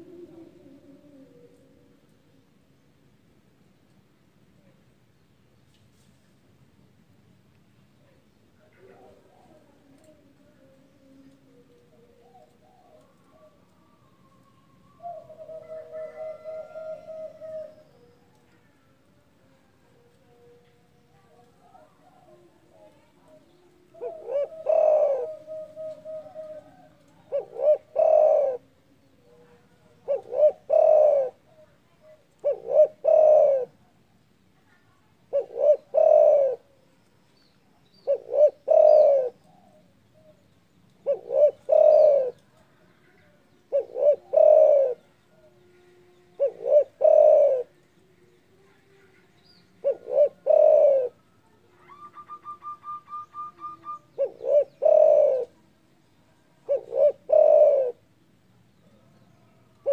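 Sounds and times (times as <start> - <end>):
dove cooing: 0.0 - 2.5, 8.6 - 19.0, 21.2 - 34.0, 35.3 - 36.9, 37.8 - 55.7, 56.3 - 58.1, 58.8 - 59.9.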